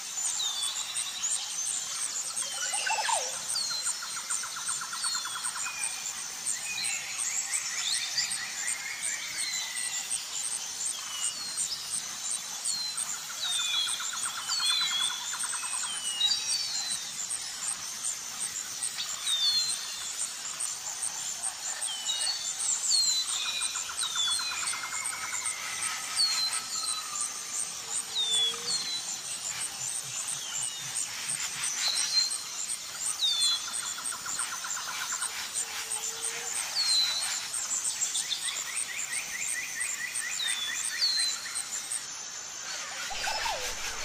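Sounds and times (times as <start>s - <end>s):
small birds chirping: 0.1s - 42.1s.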